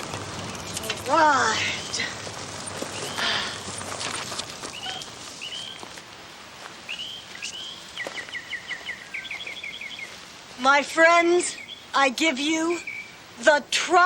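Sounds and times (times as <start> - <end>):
birds chirping: 0.0 - 13.5
outdoor hiss: 0.0 - 14.0.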